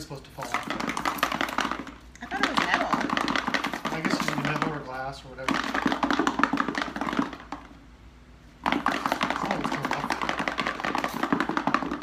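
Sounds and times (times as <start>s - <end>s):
garlic rattling in shaken container: 0.4s - 7.7s, 8.6s - 12.0s.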